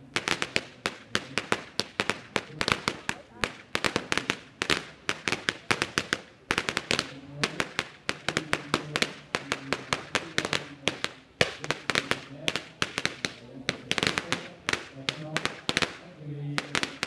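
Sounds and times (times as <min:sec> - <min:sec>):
firecrackers banging: 0:00.0 - 0:17.0.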